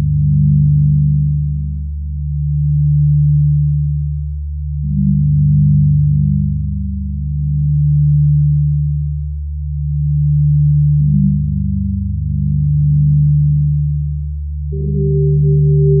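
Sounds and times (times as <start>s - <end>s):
low synthesizer tones: 0.0s - 16.0s.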